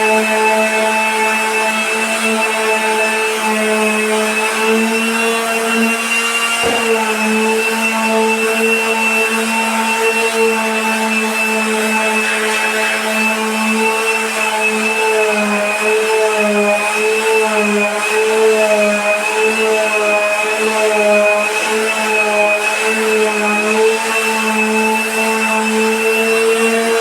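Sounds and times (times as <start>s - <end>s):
electric floor sander humming: 0.0s - 27.0s.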